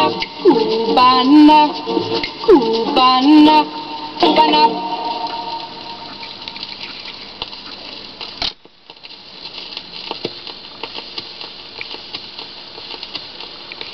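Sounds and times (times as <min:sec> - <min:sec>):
record crackles and ticks: 0:00.0 - 0:13.9
record surface hiss: 0:00.0 - 0:13.9.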